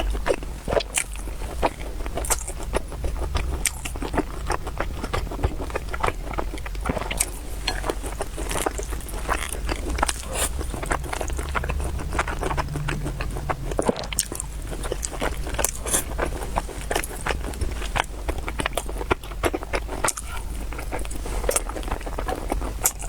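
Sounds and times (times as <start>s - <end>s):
chewing and biting: 0.0s - 23.0s.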